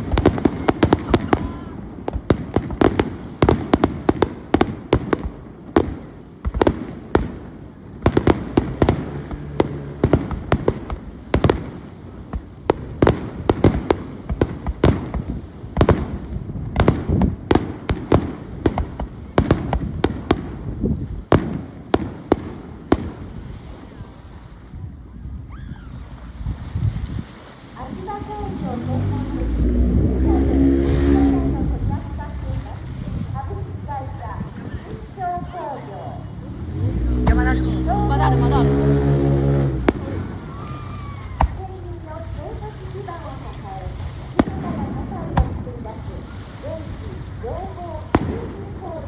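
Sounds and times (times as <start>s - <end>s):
low rumble of booms: 0.0s - 23.8s, 27.9s - 49.0s
fireworks bangs and crackles: 0.0s - 49.0s.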